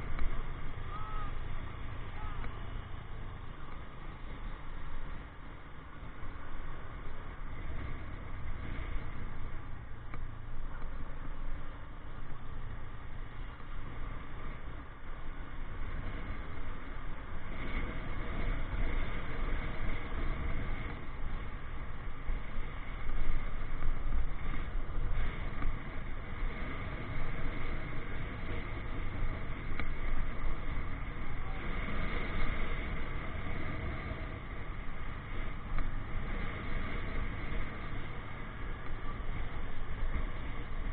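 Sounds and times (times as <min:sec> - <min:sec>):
motorcycle engine and road rumble: 0:00.0 - 0:40.9.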